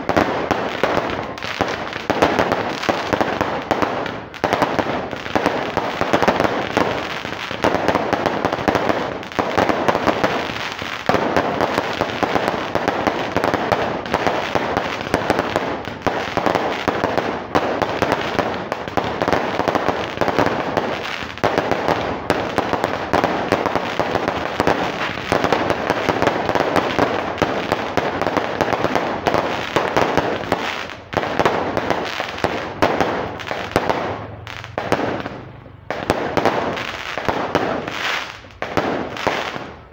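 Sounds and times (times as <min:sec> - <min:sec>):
fireworks popping and crackling: 0:00.0 - 0:39.9.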